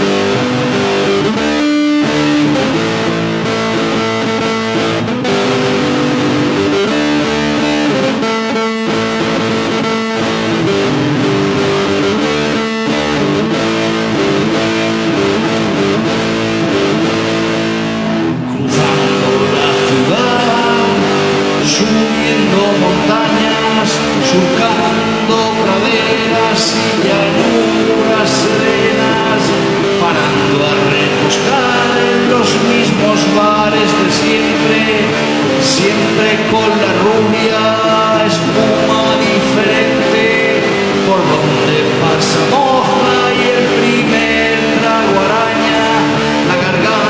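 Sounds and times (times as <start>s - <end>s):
electric guitar chords: 0.0s - 47.0s
rock music: 0.0s - 47.0s.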